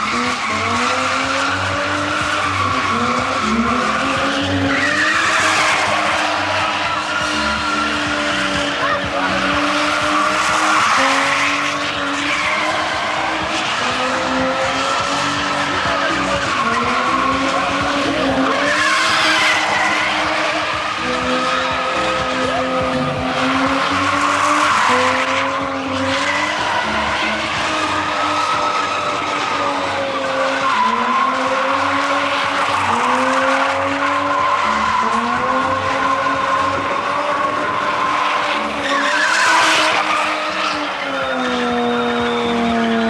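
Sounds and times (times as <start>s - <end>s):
car engine at high revs: 0.0s - 43.0s
tyres squealing on concrete: 0.0s - 43.0s.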